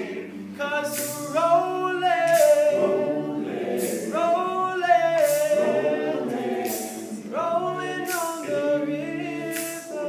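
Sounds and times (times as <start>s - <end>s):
male group singing in harmony: 0.0s - 10.0s.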